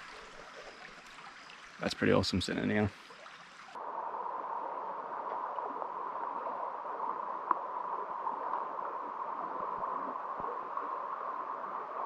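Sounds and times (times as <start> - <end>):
creek water babbling: 0.0 - 12.0.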